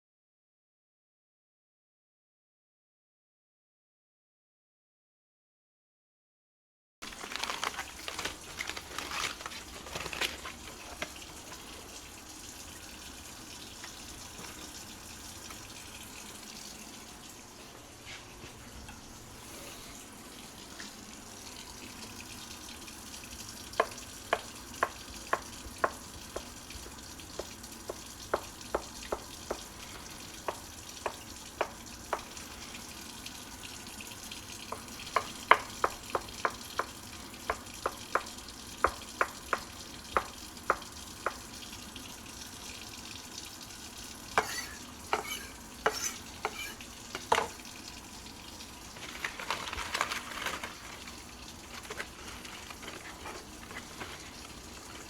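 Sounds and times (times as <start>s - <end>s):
food sizzling in a pan: 7.0s - 55.0s.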